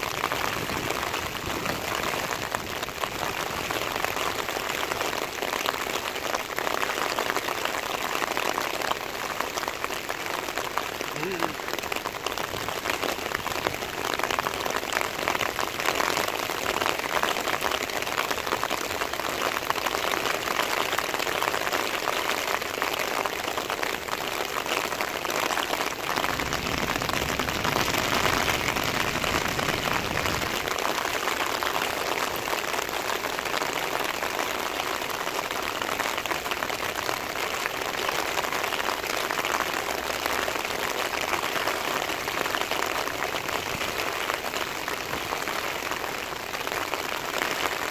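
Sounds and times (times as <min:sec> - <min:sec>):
heavy rain on road: 0:00.0 - 0:47.9.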